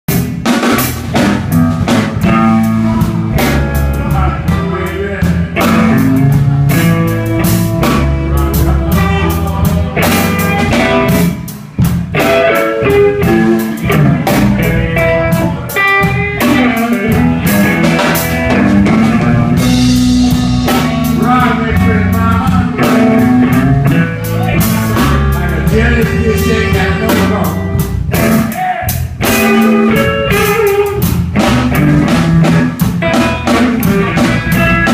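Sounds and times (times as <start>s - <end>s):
bass: 0.0s - 34.9s
drum kit: 0.1s - 34.9s
guitar lines: 0.1s - 34.9s.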